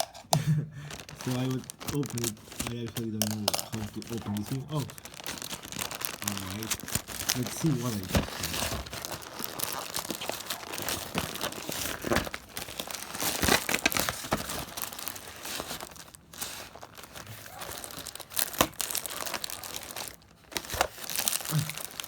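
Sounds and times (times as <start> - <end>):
packaging crumpled and torn: 0.8 - 22.0.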